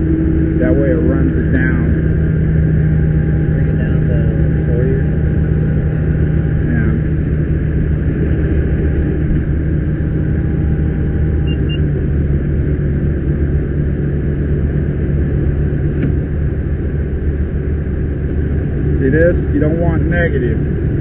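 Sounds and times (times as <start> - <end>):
fire engine pump running: 0.0 - 21.0.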